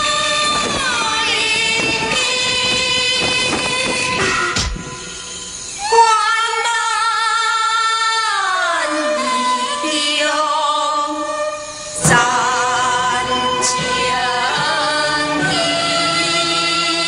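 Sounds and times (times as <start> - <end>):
woman singing opera aria: 0.0 - 17.0.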